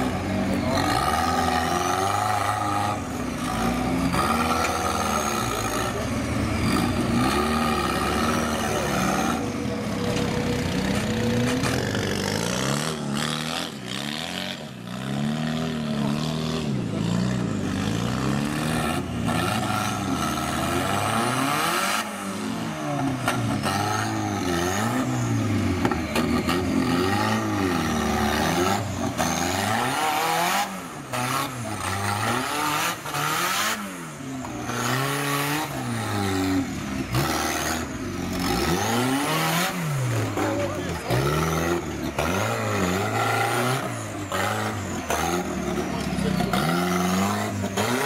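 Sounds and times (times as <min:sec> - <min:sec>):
off-road engine revving: 0:00.0 - 0:48.0.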